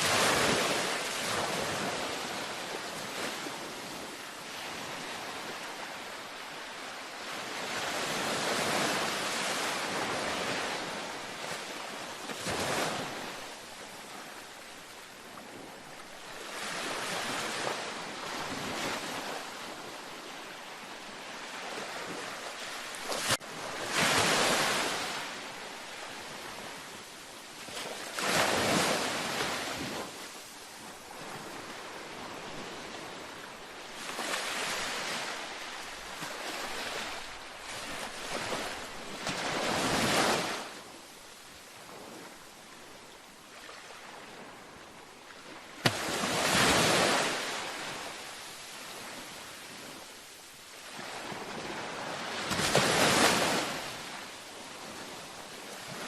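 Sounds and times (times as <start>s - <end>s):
ocean waves breaking: 0.0s - 27.0s, 27.6s - 40.9s, 41.8s - 50.0s, 50.7s - 56.0s.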